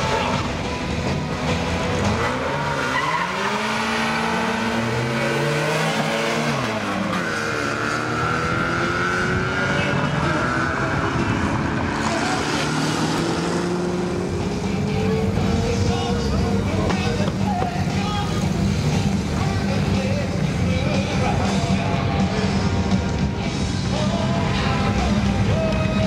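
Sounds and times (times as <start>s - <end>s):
car engines accelerating hard: 0.0s - 26.0s.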